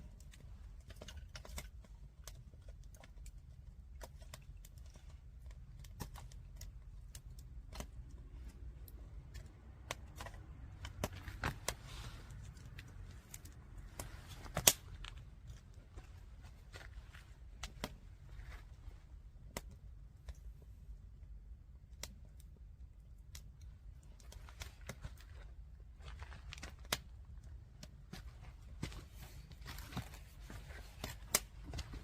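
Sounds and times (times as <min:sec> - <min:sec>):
firewood snapping and crackling: 0:00.0 - 0:32.0
steady low rumble: 0:01.8 - 0:32.0.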